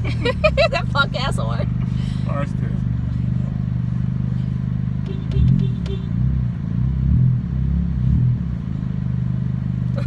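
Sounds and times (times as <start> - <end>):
car cabin engine and road drone: 0.0 - 10.0
car engine revving: 0.0 - 10.0.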